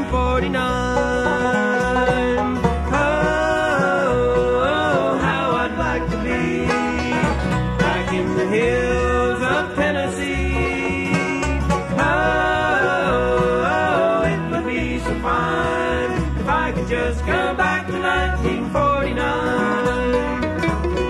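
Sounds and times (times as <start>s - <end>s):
banjo: 0.0s - 21.0s
bass line: 0.0s - 21.0s
guitar: 0.0s - 21.0s
sliding lead melody: 0.0s - 21.0s.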